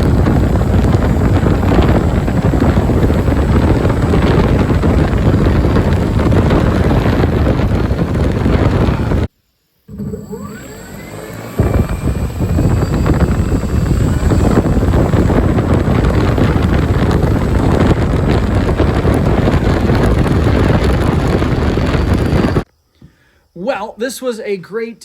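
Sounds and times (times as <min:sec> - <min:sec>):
electric motor propeller whine: 0:00.0 - 0:09.3, 0:09.9 - 0:22.6
propeller wash buffeting microphone: 0:00.0 - 0:09.3, 0:09.9 - 0:22.6.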